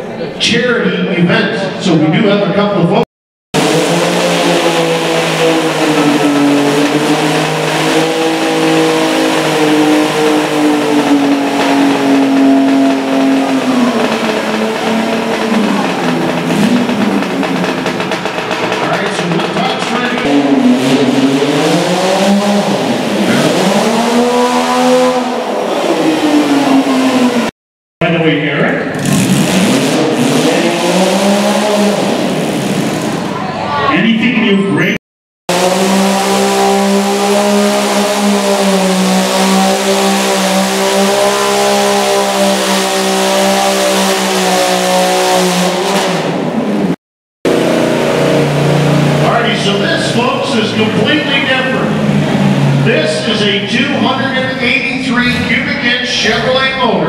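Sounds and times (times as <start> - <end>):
engine revving hard: 3.5 - 33.4, 34.8 - 57.0.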